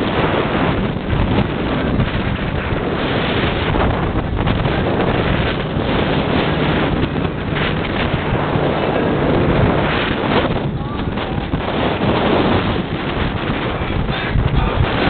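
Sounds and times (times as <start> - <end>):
boat engine hum: 0.0 - 15.0
wind buffeting microphone: 0.0 - 15.0.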